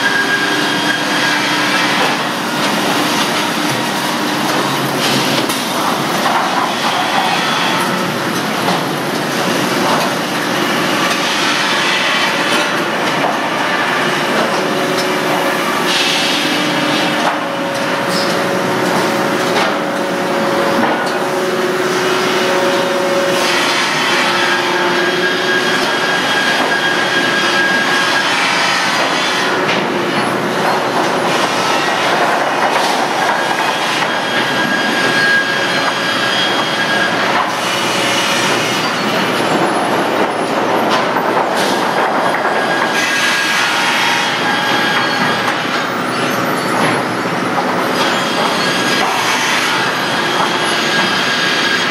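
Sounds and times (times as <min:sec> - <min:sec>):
conveyor machinery clattering: 0:00.0 - 0:51.9.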